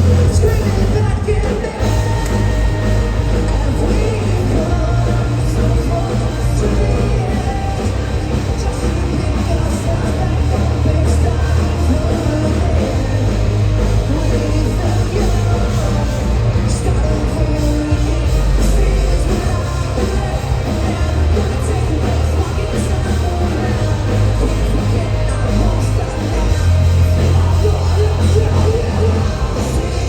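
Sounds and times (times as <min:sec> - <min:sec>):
live metal band playing loud: 0:00.0 - 0:30.0.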